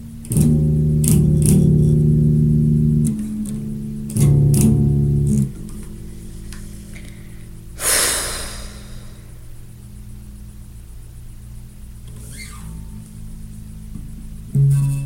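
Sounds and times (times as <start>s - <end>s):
electric bass guitar plucked: 0.0s - 9.4s, 11.9s - 15.0s.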